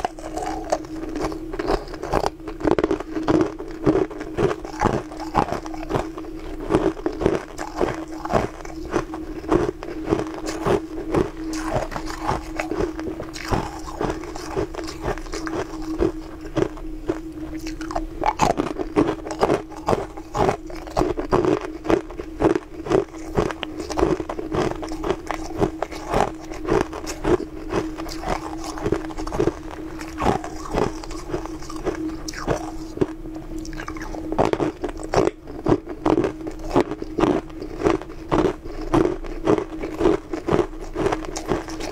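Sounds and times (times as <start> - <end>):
ice crunching while chewing: 0.0 - 41.9
steady low hum: 0.0 - 41.9.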